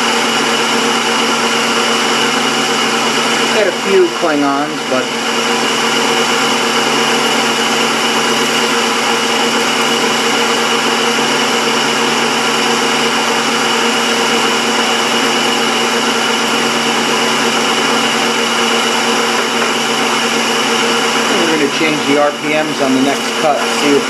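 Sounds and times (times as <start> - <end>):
high-pitched drive whine: 0.0 - 24.0
metal lathe motor humming: 0.0 - 24.0.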